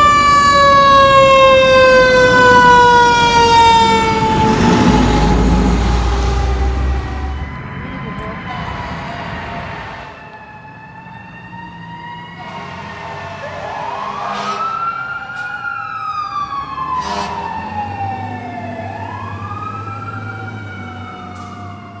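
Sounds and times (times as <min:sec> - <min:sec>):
engine rumble: 0:00.0 - 0:22.0
overlapping siren tones: 0:00.0 - 0:22.0
siren wailing: 0:00.0 - 0:22.0.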